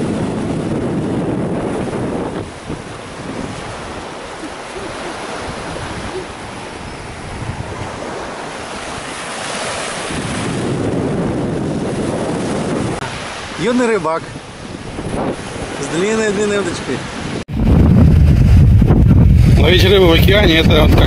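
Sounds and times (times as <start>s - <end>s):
small waves breaking on beach: 0.0s - 17.4s
wind buffeting microphone: 0.0s - 21.0s.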